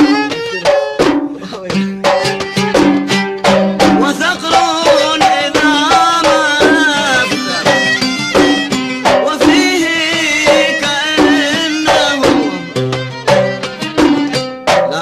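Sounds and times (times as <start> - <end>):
hand drums beating: 0.0 - 15.0
violin melody with vibrato: 0.0 - 15.0.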